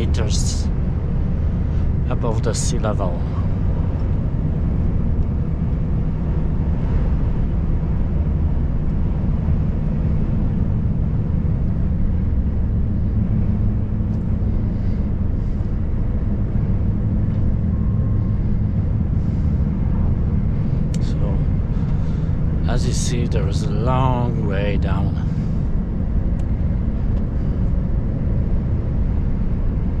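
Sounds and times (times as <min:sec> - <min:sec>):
road noise: 0:00.0 - 0:30.0
truck diesel engine droning: 0:00.0 - 0:30.0.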